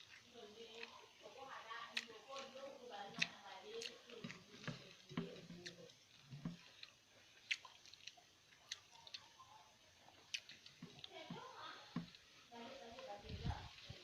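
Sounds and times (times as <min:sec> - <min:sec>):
chewing with mouth smacks: 0:00.0 - 0:12.3.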